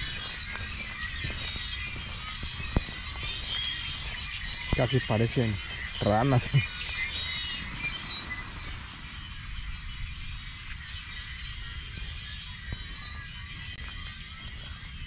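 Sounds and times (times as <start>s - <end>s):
small birds chattering: 0.0s - 15.0s
steady low rumble: 0.0s - 15.0s.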